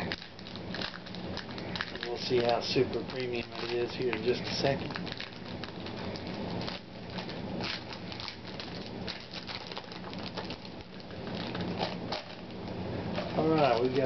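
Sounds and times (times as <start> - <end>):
foil pack crinkling and tearing: 0.0 - 14.0.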